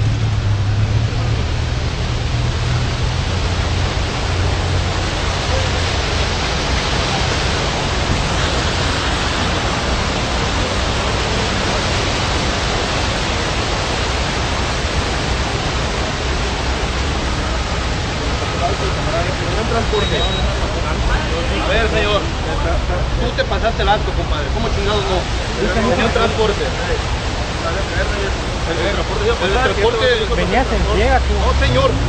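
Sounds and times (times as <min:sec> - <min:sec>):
fountain water cascading over rocks: 0:00.0 - 0:32.0.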